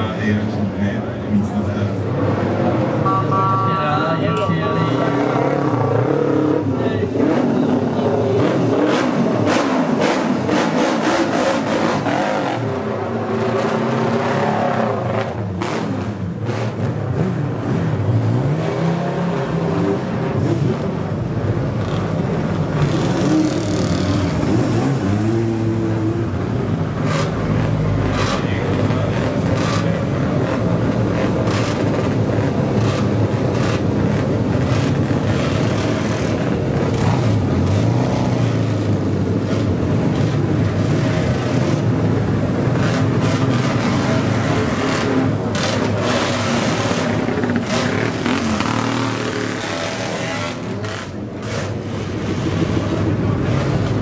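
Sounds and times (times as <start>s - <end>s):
vehicle engines revving: 0.0s - 54.0s.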